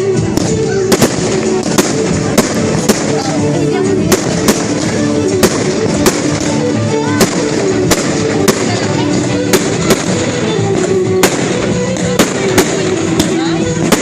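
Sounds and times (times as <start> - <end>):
music: 0.0 - 14.0
fireworks bangs: 0.1 - 14.0
voices: 0.5 - 14.0.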